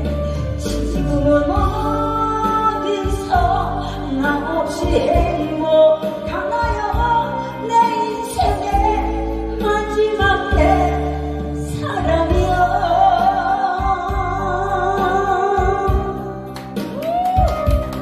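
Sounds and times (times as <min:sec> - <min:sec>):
loud backing track: 0:00.0 - 0:18.0
woman singing into microphone: 0:00.0 - 0:18.0.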